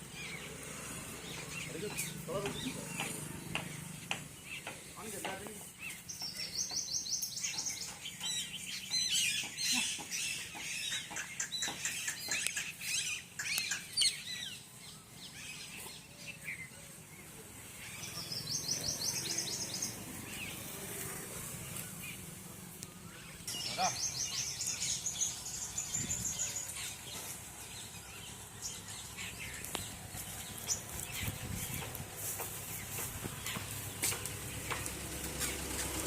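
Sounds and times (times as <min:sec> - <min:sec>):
birds chirping and calling: 0:00.0 - 0:36.0.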